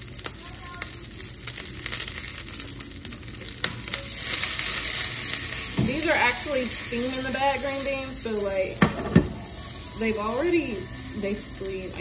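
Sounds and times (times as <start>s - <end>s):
beans sizzling in a skillet: 0.0s - 12.0s.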